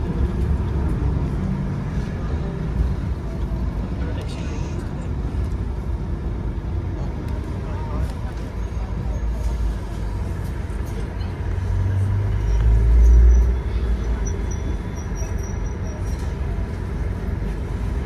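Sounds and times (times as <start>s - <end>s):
bus diesel engine idling: 0.0s - 18.0s.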